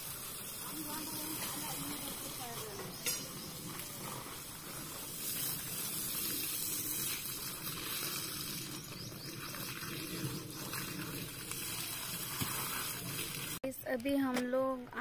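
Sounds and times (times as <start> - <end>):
hose water spraying on plants: 0.0 - 13.6.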